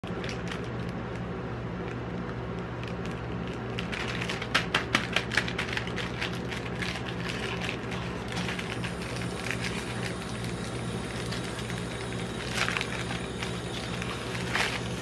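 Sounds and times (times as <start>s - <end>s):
plastic wrapper crinkling: 0.0s - 15.0s
steady low hum: 0.0s - 15.0s.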